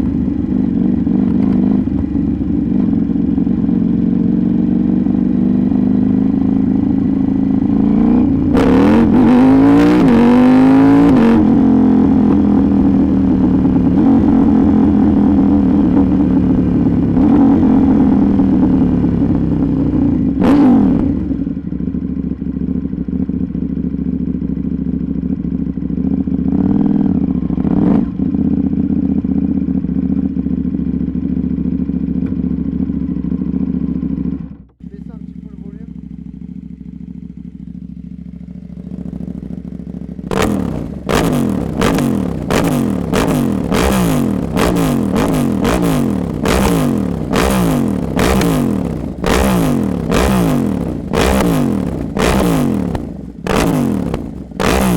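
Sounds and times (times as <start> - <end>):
loud motorcycle engine revving: 0.0 - 21.8, 25.8 - 30.4, 34.8 - 54.9.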